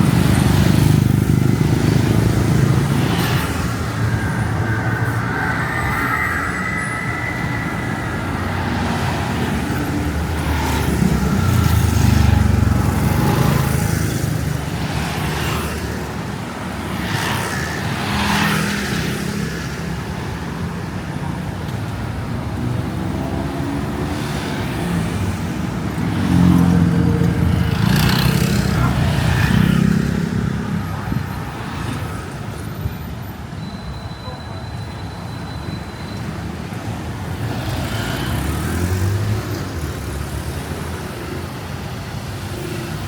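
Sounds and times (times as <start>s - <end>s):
vehicle engines passing: 0.0s - 33.6s, 36.2s - 43.0s
steady city hum: 0.0s - 43.0s.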